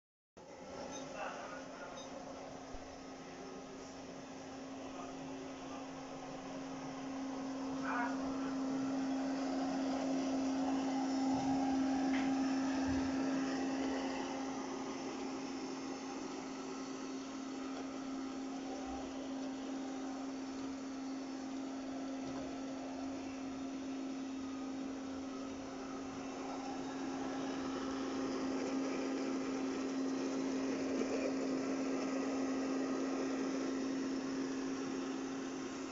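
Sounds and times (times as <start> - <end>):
robot vacuum cleaner running: 0.4 - 35.9.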